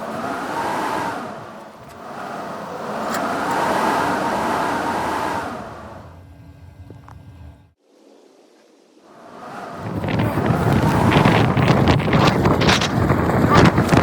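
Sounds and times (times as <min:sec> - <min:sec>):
strong gusting wind: 0:00.0 - 0:07.8, 0:09.0 - 0:14.0.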